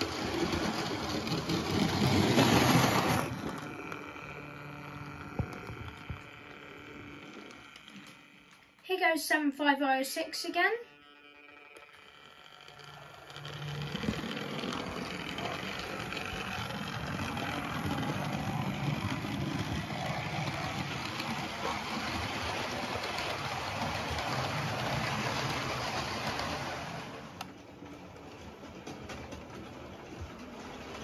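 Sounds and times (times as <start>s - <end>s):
wheels rattling over rail joints: 0.0s - 8.1s, 12.8s - 31.0s
electric motor whir: 0.0s - 8.8s, 10.0s - 27.5s.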